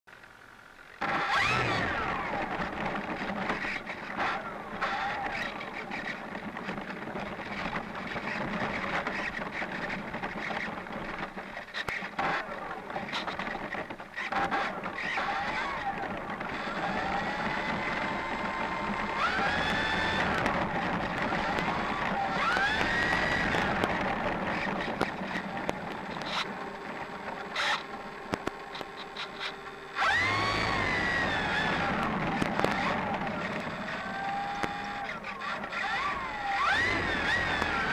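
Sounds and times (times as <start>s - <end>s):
model plane motor whirring: 0.2s - 37.9s
sharp clicks: 1.0s - 37.9s.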